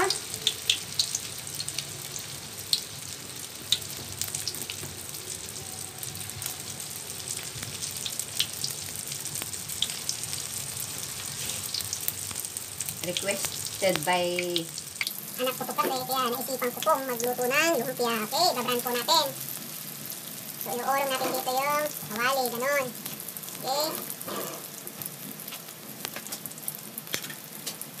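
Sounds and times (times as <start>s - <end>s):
spring rolls sizzling in oil: 0.0s - 28.0s.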